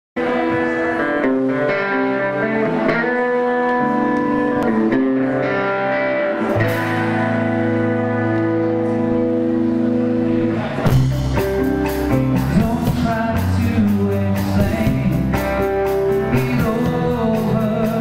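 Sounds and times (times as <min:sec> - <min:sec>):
electric guitar through amplifier: 0:00.2 - 0:18.0.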